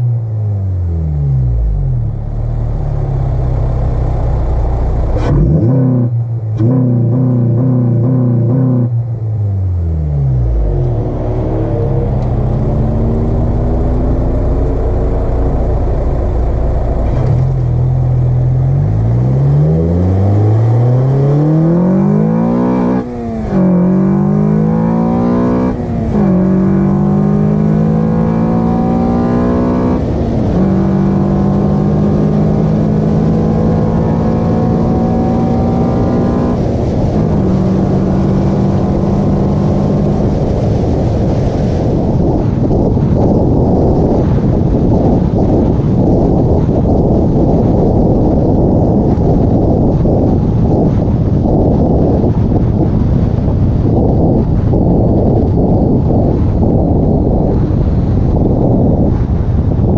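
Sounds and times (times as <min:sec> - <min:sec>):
car engine accelerating through gears: 0:00.0 - 0:59.9.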